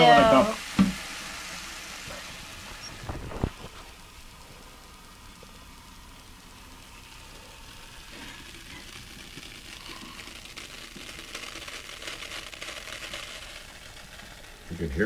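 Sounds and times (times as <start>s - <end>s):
fizzing bubbles hissing: 0.0s - 15.0s.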